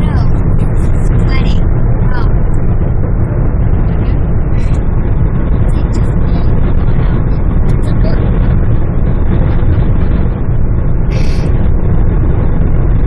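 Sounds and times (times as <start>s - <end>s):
car cabin road and wind noise: 0.0s - 13.0s.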